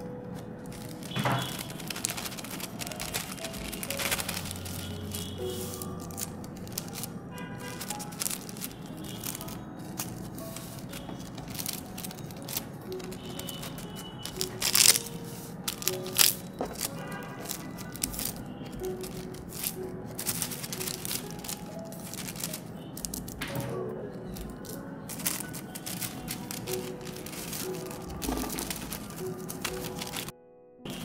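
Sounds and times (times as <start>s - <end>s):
paper envelope rustling: 0.0s - 30.3s
light background music: 0.0s - 31.0s.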